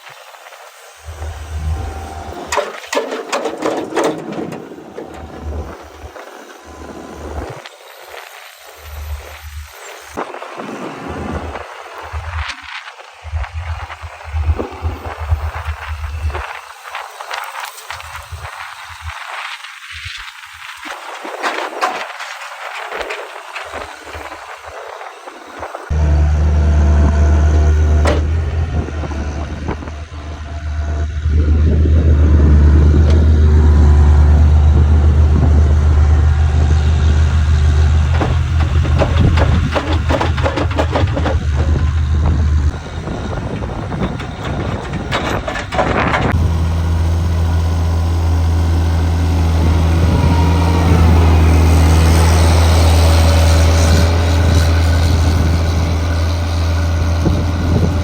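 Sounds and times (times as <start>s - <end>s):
heavy engine droning: 0.0s - 58.0s.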